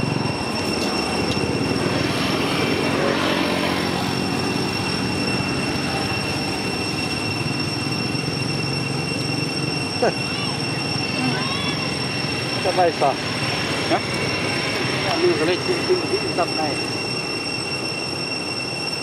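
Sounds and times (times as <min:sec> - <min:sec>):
high-pitched whine: 0:00.0 - 0:19.0
outdoor background noise: 0:00.0 - 0:19.0.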